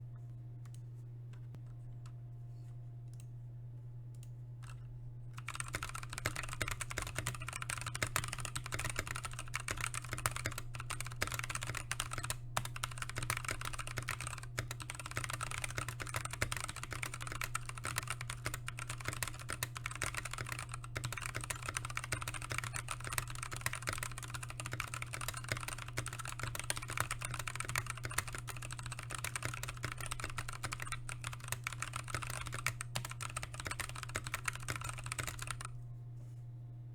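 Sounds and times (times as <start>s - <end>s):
steady low hum: 0.0s - 36.9s
mechanical keyboard typing: 5.4s - 35.7s.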